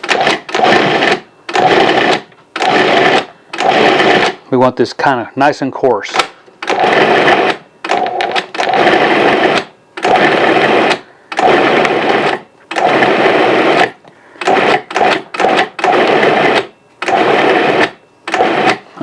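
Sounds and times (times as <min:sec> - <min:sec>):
food processor motor pulsing: 0:00.0 - 0:04.4, 0:06.6 - 0:19.0.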